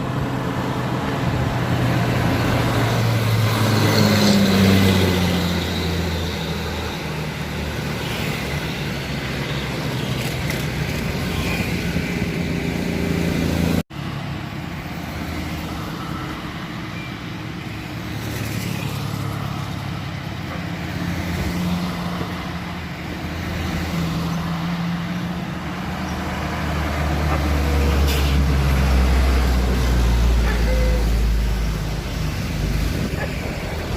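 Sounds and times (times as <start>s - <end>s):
vehicle engines humming: 0.0s - 33.9s.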